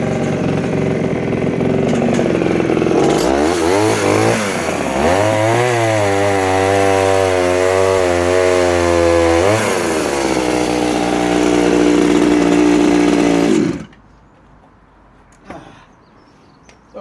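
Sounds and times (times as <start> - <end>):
chainsaw cutting hard timber: 0.0 - 14.0.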